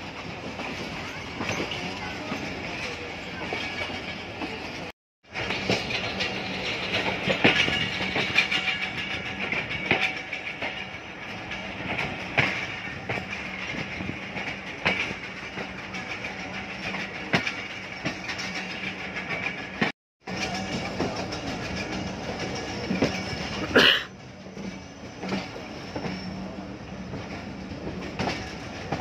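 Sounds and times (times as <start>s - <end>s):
train coach rushing clatter: 0.0s - 29.0s
wheels clacking over rail joints: 0.0s - 29.0s.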